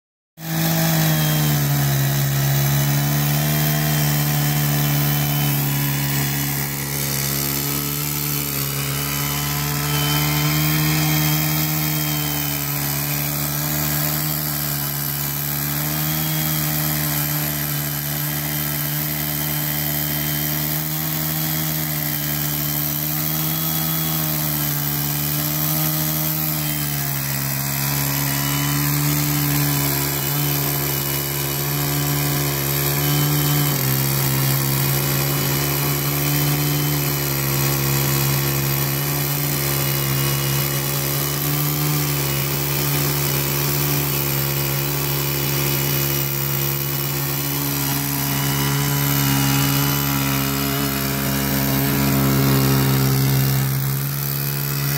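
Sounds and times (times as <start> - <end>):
chainsaw cutting log: 0.4 - 54.9.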